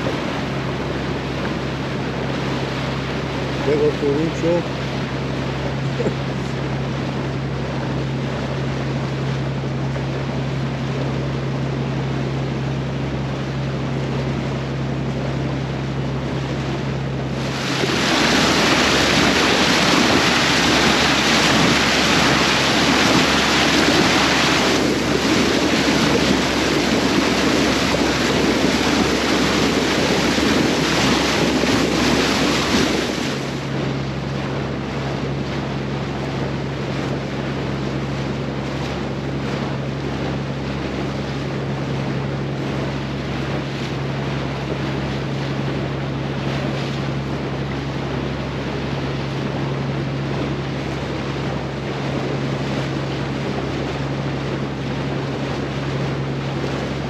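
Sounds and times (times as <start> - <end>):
boat engine humming: 0.0 - 57.0
wind and water rushing: 0.0 - 57.0.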